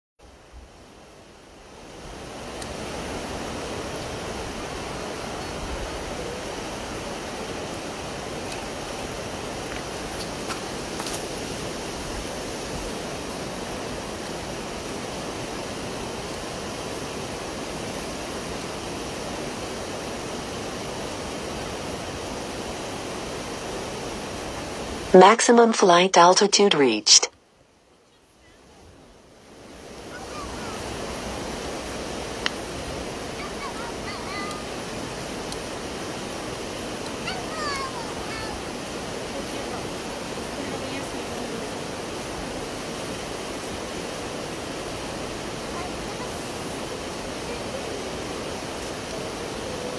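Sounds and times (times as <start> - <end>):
river water rushing: 0.8 - 25.2, 29.4 - 49.9.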